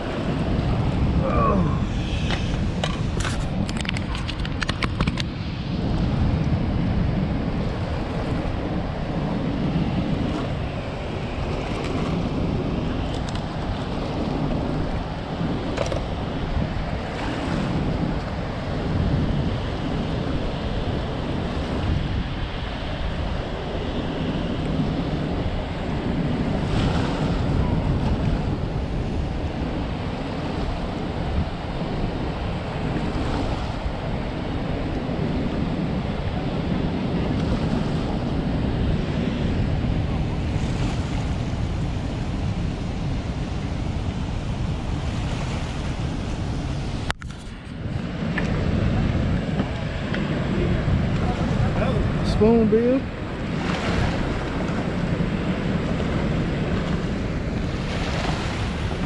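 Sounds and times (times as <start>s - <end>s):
rushing river water: 0.0s - 31.6s, 39.6s - 59.0s
wind buffeting microphone: 0.0s - 59.0s.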